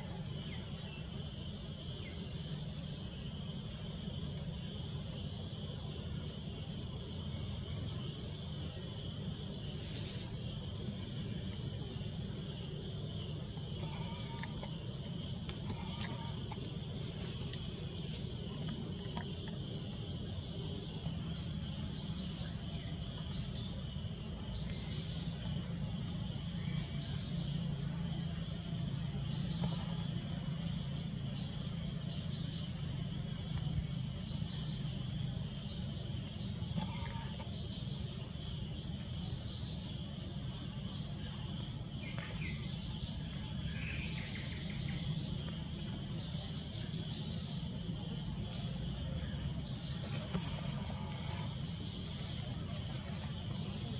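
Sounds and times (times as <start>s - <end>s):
insect chorus trilling: 0.0s - 53.9s.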